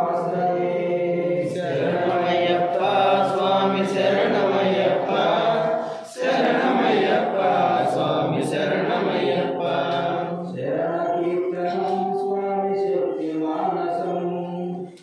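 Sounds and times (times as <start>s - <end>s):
men chanting a devotional song: 0.0s - 15.0s.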